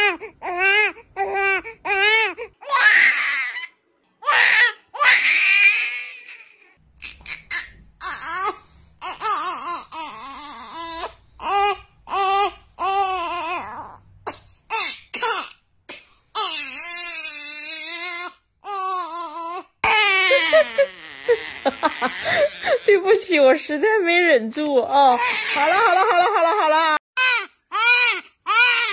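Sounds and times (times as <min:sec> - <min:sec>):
newborn babies crying: 0:00.0 - 0:14.0, 0:16.4 - 0:23.2, 0:25.1 - 0:28.9.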